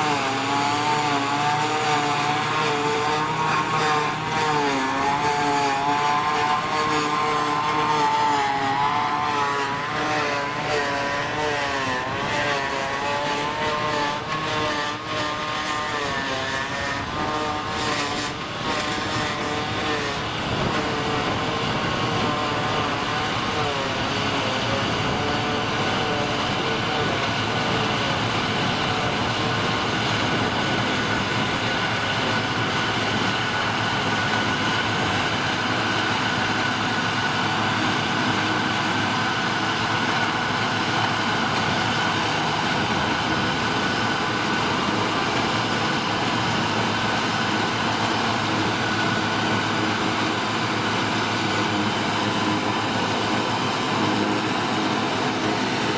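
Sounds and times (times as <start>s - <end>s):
constant high whine: 0.0s - 55.9s
harvester chopping grass: 0.0s - 55.9s
tractor engines under load: 0.0s - 55.9s.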